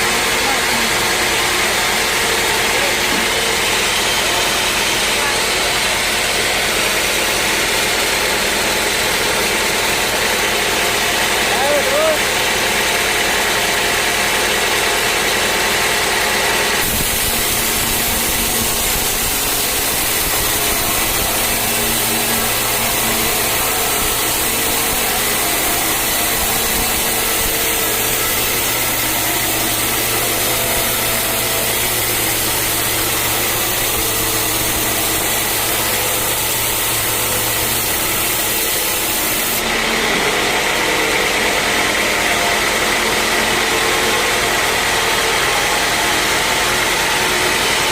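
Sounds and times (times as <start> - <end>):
saw cutting through log: 0.0 - 47.9
sawmill running: 0.0 - 47.9.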